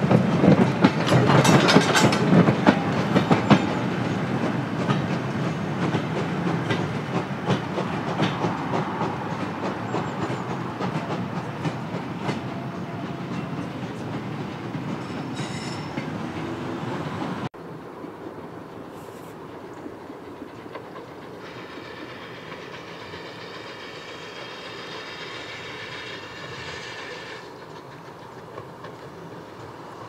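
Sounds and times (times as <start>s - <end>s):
train wheels clicking over rail joints: 0.0s - 17.5s, 19.3s - 30.0s.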